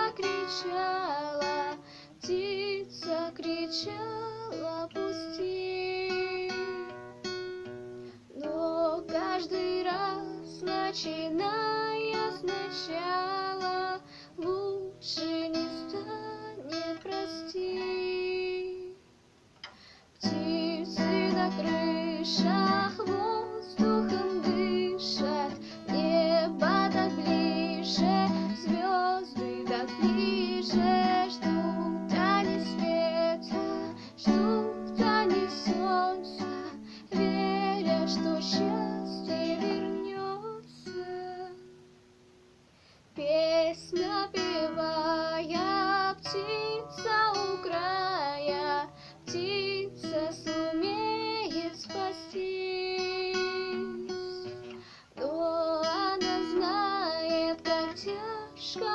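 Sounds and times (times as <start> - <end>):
guitar accompaniment: 0.0 - 19.0, 19.6 - 42.6, 43.2 - 58.9
woman singing: 0.0 - 19.0, 20.2 - 41.9, 43.1 - 58.9.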